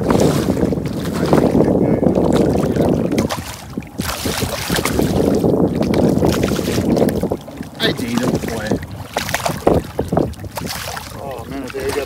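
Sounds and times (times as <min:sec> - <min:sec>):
water sloshing and splashing: 0:00.0 - 0:12.0
wind buffeting microphone: 0:00.0 - 0:12.0.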